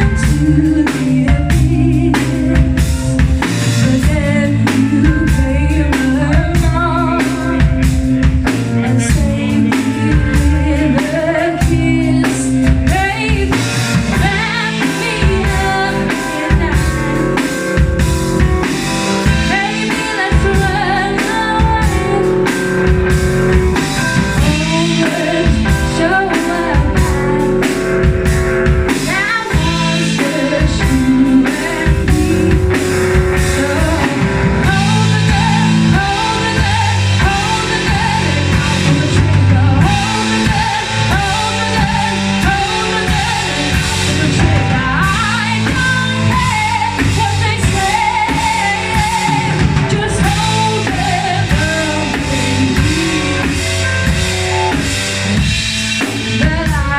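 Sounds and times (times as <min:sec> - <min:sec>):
person singing: 0:00.0 - 0:18.0, 0:23.8 - 0:27.8, 0:28.9 - 0:54.0
live rock band playing: 0:00.0 - 0:56.9.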